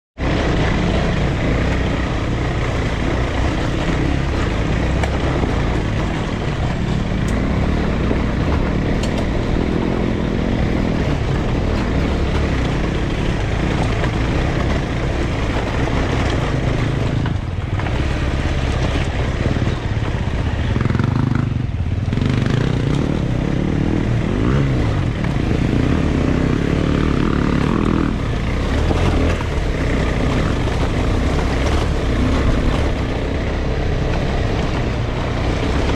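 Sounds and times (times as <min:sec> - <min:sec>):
vehicle engine running: 0:00.2 - 0:35.9.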